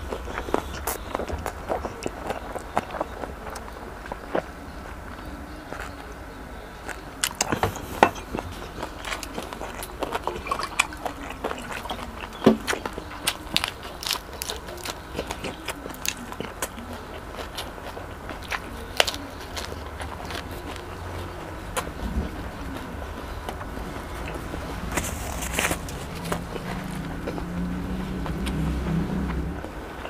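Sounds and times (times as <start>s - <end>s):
crisp crunching while chewing: 0.0s - 30.0s.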